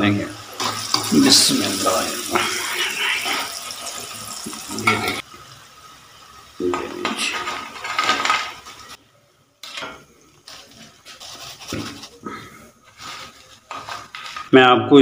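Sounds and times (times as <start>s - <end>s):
oil sizzling: 0.0s - 14.6s.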